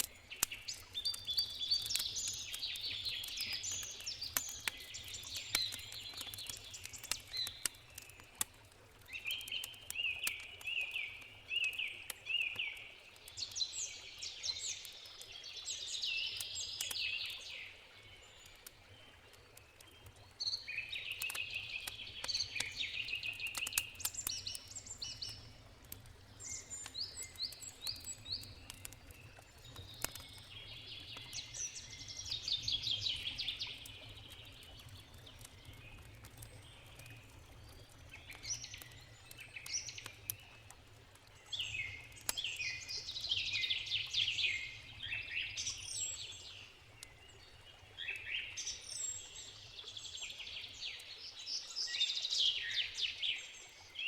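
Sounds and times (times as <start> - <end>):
campfire crackling: 0.0 - 53.9
songbirds chirping: 0.0 - 54.0.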